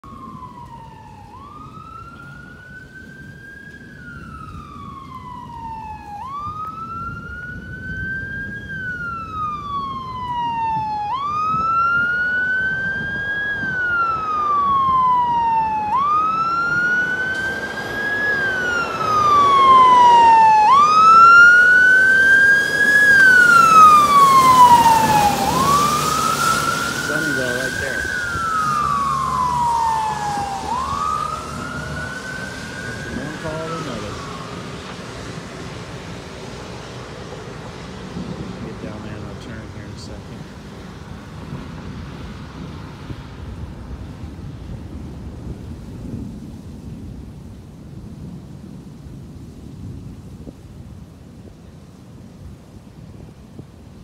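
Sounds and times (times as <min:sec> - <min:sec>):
fire engine siren wailing: 0:00.0 - 0:54.0.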